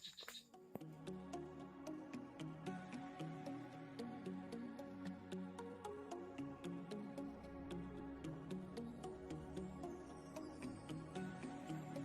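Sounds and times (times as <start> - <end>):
soft chords and melody: 0.6 - 12.0.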